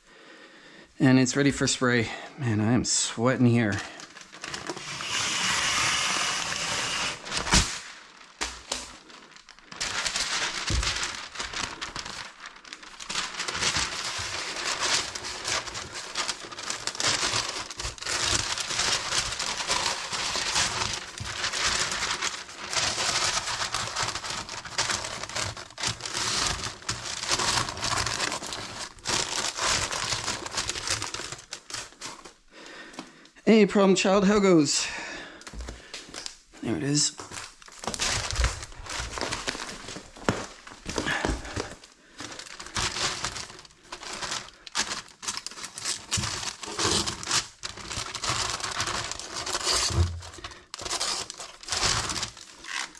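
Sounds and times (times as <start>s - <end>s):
stiff paper rustling: 3.3s - 33.3s, 35.3s - 52.9s.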